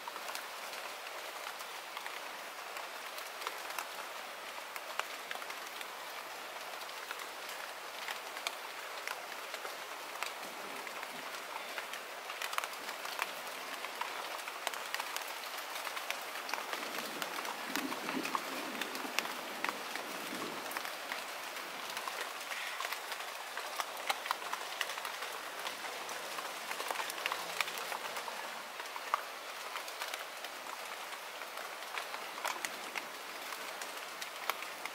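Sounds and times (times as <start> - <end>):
rain falling on pond: 0.0 - 34.9.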